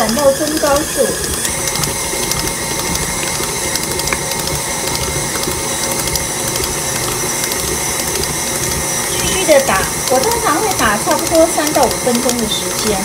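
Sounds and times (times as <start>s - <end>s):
stand mixer whirring: 0.0s - 13.0s.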